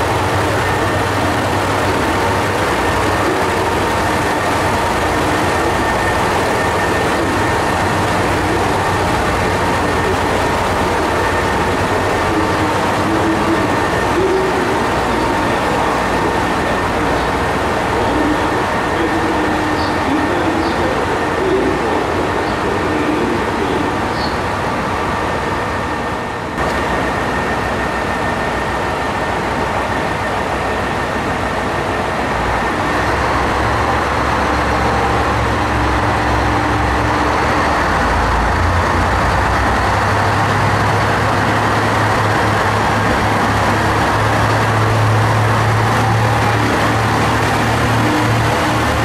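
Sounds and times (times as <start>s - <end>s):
diesel railcar engine throttling up: 0.0s - 49.0s
station noise: 0.0s - 49.0s.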